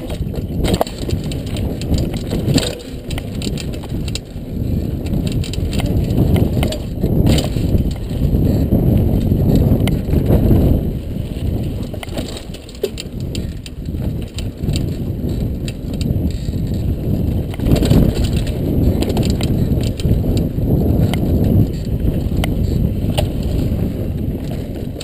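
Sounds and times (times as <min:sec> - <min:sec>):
bike clicks and rattles: 0:00.0 - 0:25.0
low rumble of bike ride: 0:00.0 - 0:25.0.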